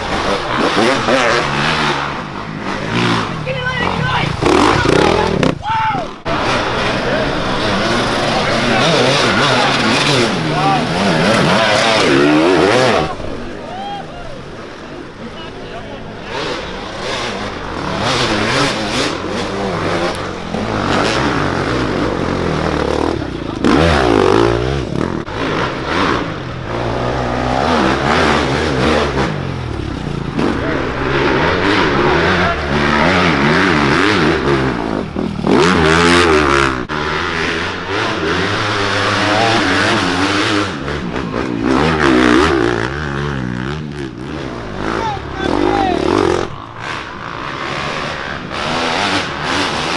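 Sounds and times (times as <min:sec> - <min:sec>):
dirt bike engine revving: 0:00.0 - 0:13.7, 0:14.4 - 0:49.9
steady rush of noise: 0:00.0 - 0:49.9.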